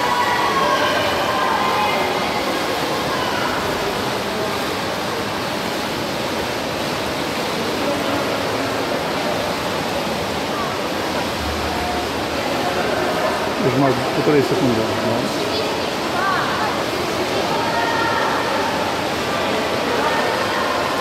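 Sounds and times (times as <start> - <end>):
faint voices: 0.0 - 21.0
water splashing from swimmers: 0.0 - 21.0.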